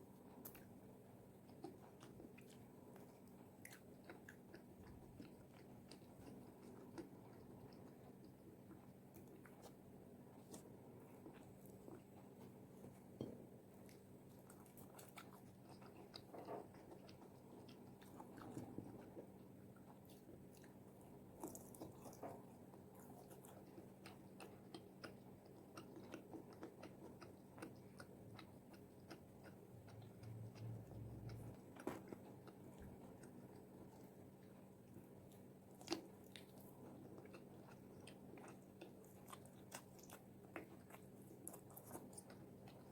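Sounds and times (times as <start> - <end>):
crunching while chewing: 0.2 - 13.2, 13.8 - 42.9.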